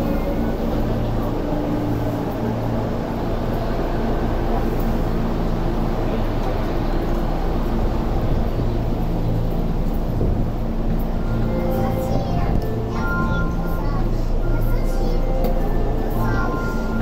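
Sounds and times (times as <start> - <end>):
low train equipment hum: 0.0 - 17.0
station and cabin noise: 0.0 - 17.0.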